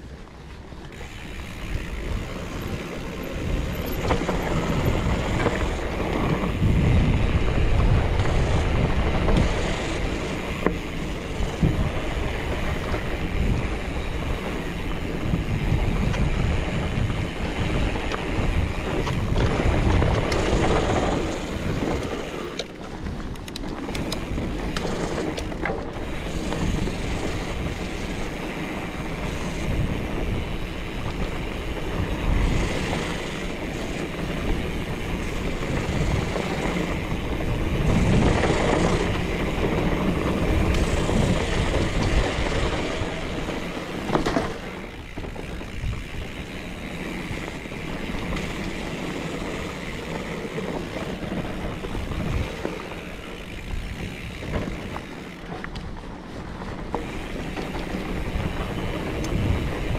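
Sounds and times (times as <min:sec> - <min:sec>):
bike knocking and rattling: 0:00.0 - 0:59.9
tyres rumbling on dirt: 0:00.0 - 0:59.9
wind buffeting microphone: 0:00.0 - 0:59.9.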